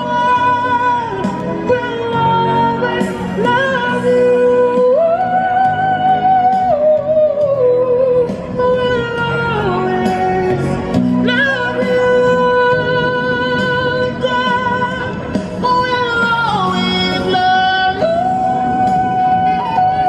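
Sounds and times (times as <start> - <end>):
person singing slow song: 0.0 - 20.0.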